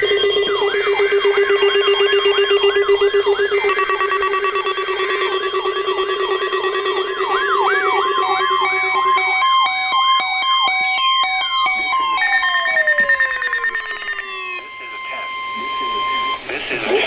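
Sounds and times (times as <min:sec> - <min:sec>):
low warbling siren tone: 0:00.0 - 0:16.4
wailing siren: 0:00.0 - 0:16.5
yelp siren: 0:00.0 - 0:16.5
stepped alarm beeping: 0:00.0 - 0:16.8.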